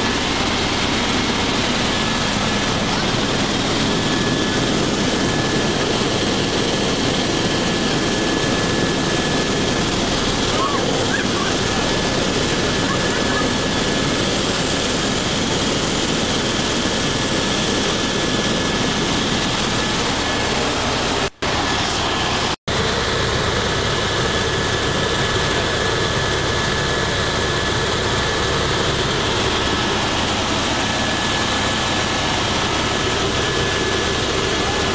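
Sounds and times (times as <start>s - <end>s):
helicopter engine and rotor noise: 0.0s - 34.9s.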